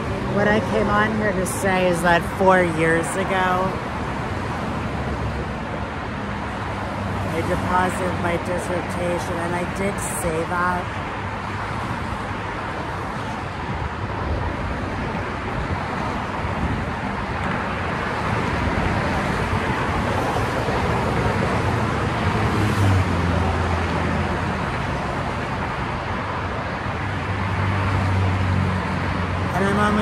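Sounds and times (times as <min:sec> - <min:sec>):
highway traffic rushing: 0:00.0 - 0:30.0.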